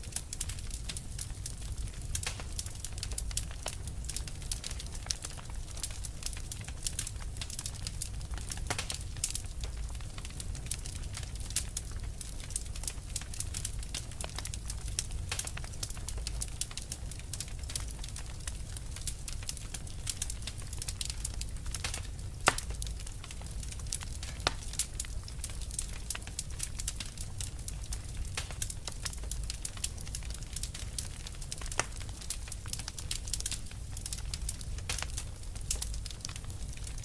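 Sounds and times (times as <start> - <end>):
fire crackling and popping: 0.0 - 37.0
low fire rumble: 0.0 - 37.0.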